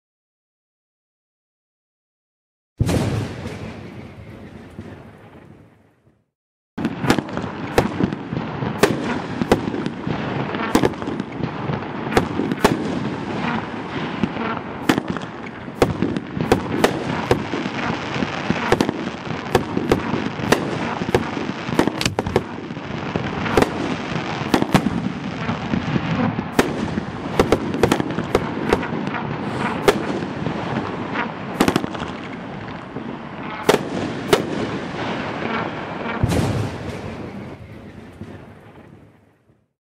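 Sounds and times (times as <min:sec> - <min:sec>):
firework bangs: 0:02.8 - 0:05.7, 0:06.8 - 0:39.2.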